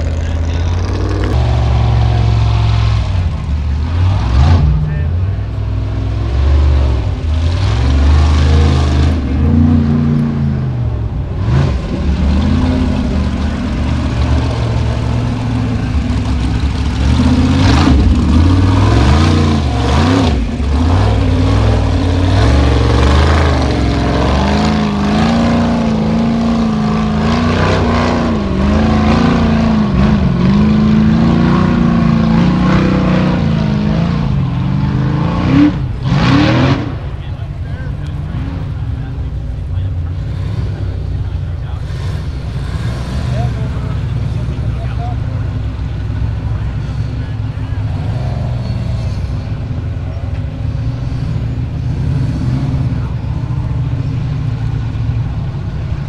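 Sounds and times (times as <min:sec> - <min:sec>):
buggy engine revving hard: 0:00.0 - 0:56.0.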